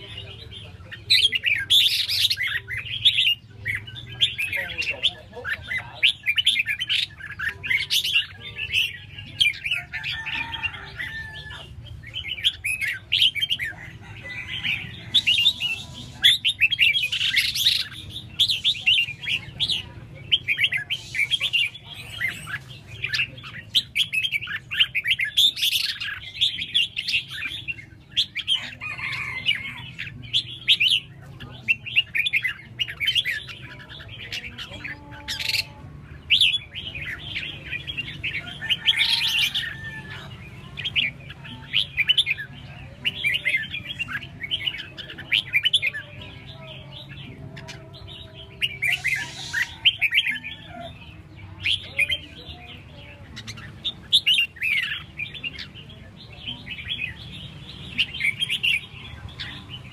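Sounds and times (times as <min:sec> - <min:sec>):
birds chirping and warbling: 0:00.0 - 0:59.9.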